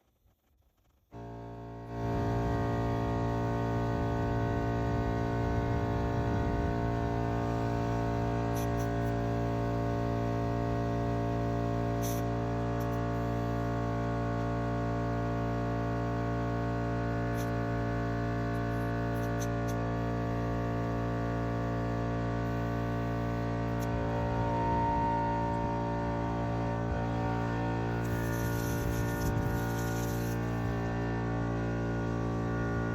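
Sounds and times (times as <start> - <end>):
air compressor motor hum: 1.2 - 32.9.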